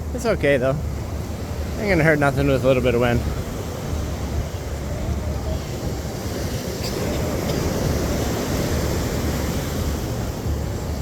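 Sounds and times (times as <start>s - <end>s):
ocean surf: 0.0s - 11.0s
wind buffeting microphone: 0.0s - 11.0s.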